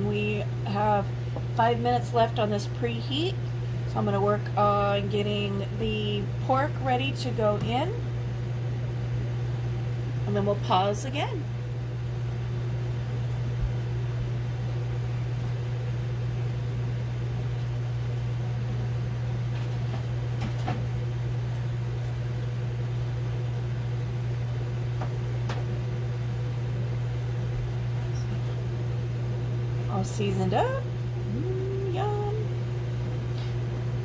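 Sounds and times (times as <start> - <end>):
cooker fan and heater humming: 0.0 - 34.0.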